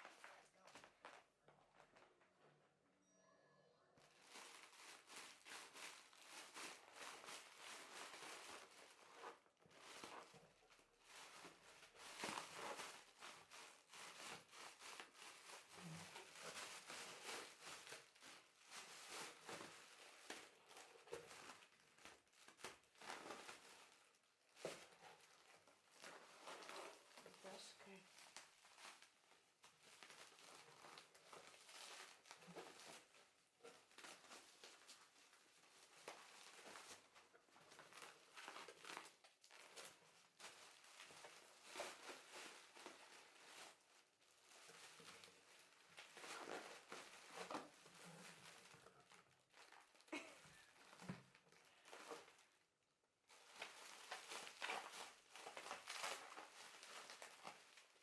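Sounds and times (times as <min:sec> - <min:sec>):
packaging crinkling and tearing: 0:04.0 - 0:58.0.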